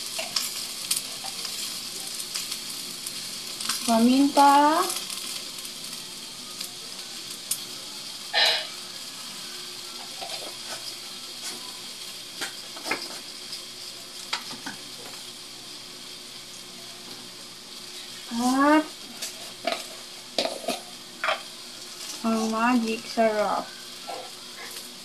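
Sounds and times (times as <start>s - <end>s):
mussels sizzling in a pot: 0.0s - 25.0s.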